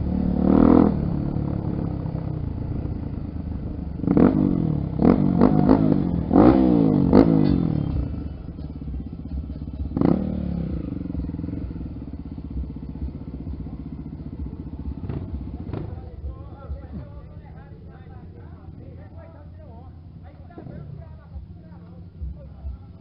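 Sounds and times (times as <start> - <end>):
dirt bike engine revving: 0.0 - 22.7.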